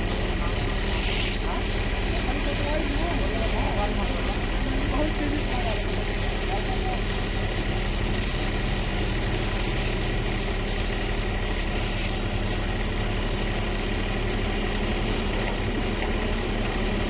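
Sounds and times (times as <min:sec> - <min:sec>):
stick welding hiss: 0:00.0 - 0:16.7
welding set engine humming: 0:00.0 - 0:17.0.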